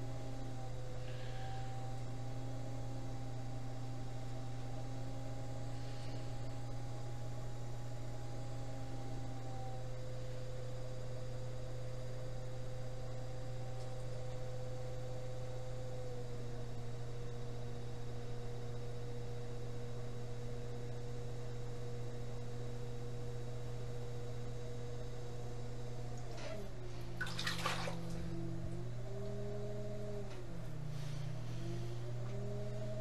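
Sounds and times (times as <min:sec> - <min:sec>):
potter's wheel motor humming: 0:00.0 - 0:33.0.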